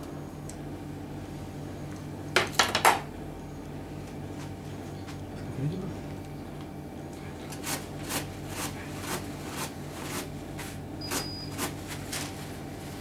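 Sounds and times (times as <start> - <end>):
pulsing low electrical hum: 0.0 - 13.0.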